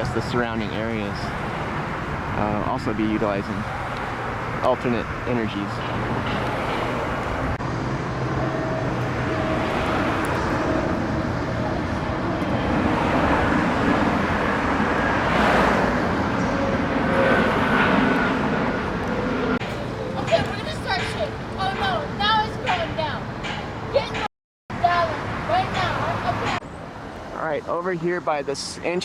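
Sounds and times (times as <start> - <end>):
vehicles driving by: 0.0 - 29.0.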